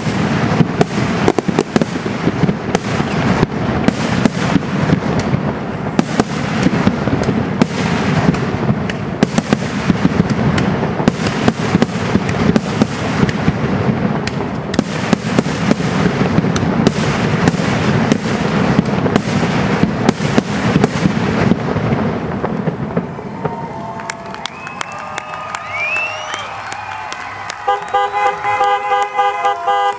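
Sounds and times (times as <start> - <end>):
fireworks bangs and crackling: 0.0 - 29.9.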